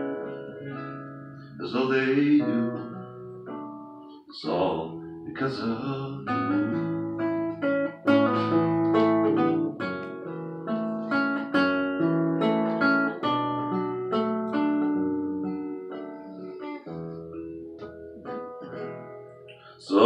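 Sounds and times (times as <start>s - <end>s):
acoustic guitar picking and strumming: 0.0s - 20.0s.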